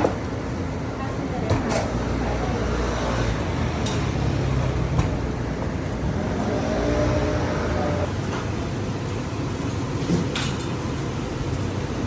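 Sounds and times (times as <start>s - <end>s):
street background rumble: 0.0s - 12.0s.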